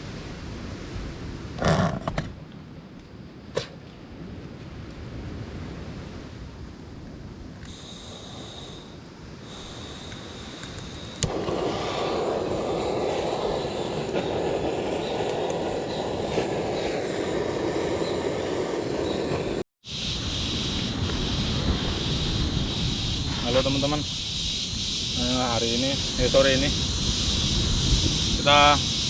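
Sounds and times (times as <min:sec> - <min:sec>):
surf on beach: 0:00.0 - 0:02.3, 0:03.4 - 0:29.0
wind on microphone: 0:04.1 - 0:29.0.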